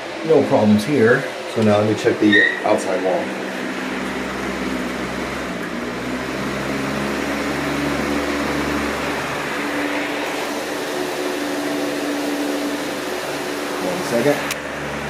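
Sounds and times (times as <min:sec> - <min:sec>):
electric floor fan running: 0:00.0 - 0:15.0.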